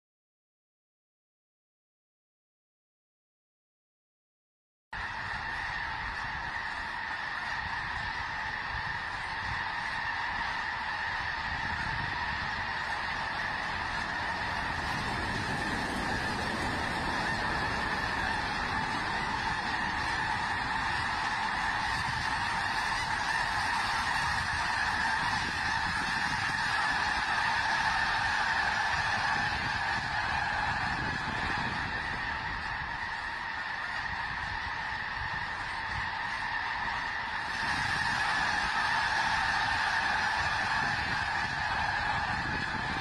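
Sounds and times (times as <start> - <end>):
flock of geese honking: 5.0 - 43.0.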